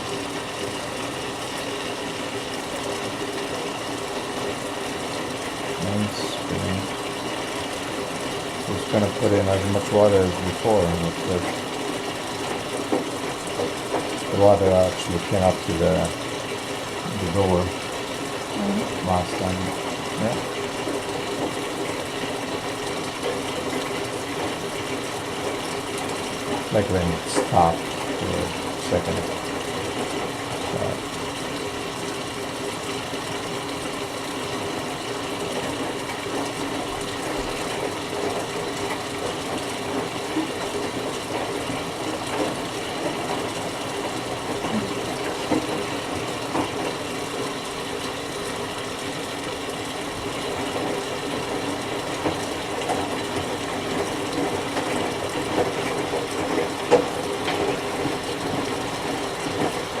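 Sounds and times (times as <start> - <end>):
washing machine filling with water: 0.0 - 60.0.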